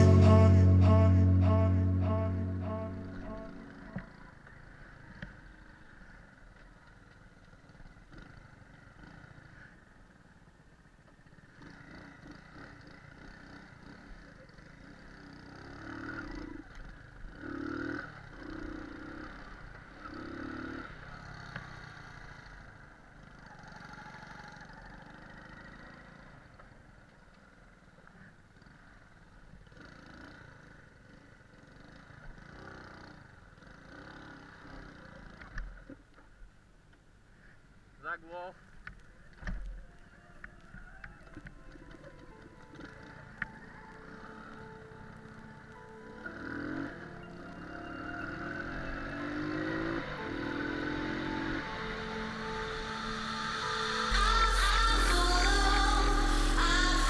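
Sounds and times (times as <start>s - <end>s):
moped engine running: 0.0s - 36.1s, 41.2s - 57.0s.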